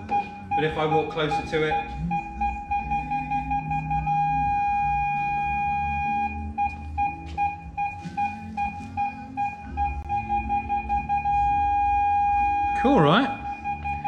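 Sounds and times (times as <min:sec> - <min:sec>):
parking sensor beeping: 0:00.0 - 0:14.0.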